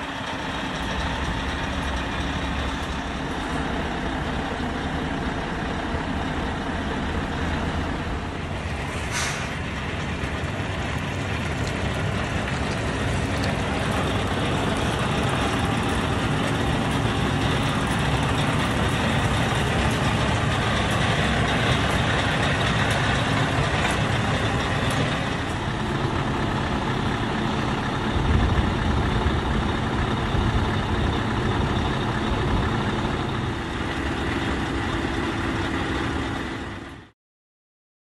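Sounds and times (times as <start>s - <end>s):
diesel engine idling: 0.0s - 37.1s.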